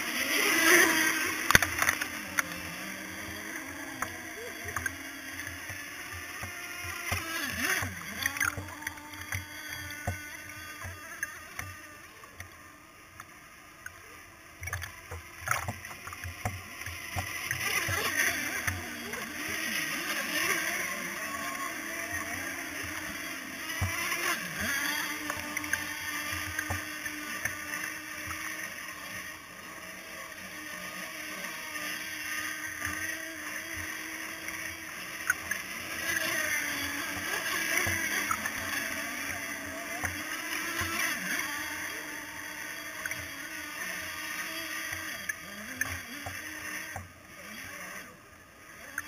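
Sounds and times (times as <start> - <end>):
faint engine whine: 0.0 - 49.0.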